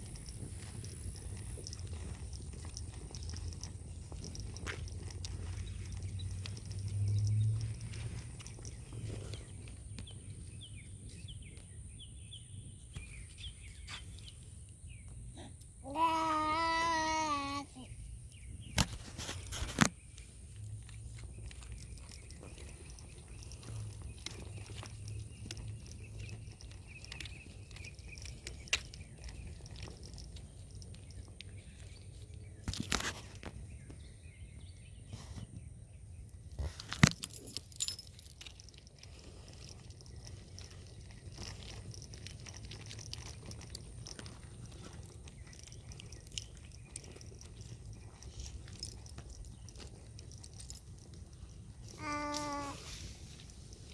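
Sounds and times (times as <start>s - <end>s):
faint ticks and crunches: 0.0s - 53.9s.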